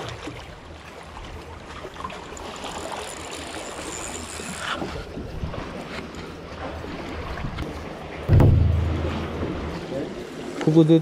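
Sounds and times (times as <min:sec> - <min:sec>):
sea water lapping against rocks: 0:00.0 - 0:10.6.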